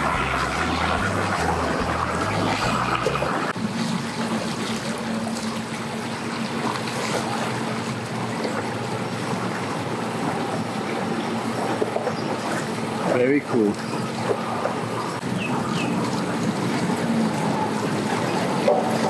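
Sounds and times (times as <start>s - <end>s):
water rushing and splashing: 0.0s - 19.0s
watercraft engine humming: 0.0s - 19.0s.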